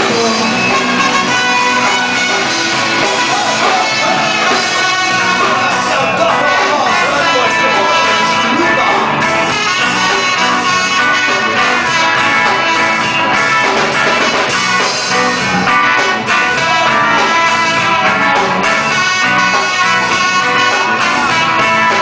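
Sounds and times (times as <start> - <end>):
electric guitar: 0.0 - 22.0
rhythm section: 0.0 - 22.0
trumpets playing together: 0.0 - 22.0.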